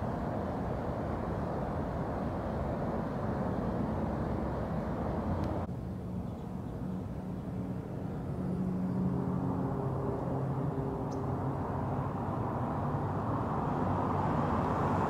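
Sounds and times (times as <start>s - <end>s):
low rumble of vehicles: 0.0s - 15.0s.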